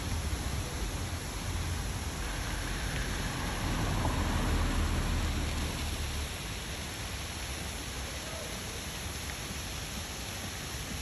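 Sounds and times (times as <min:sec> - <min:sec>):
waterfall rushing down rock: 0:00.0 - 0:11.0.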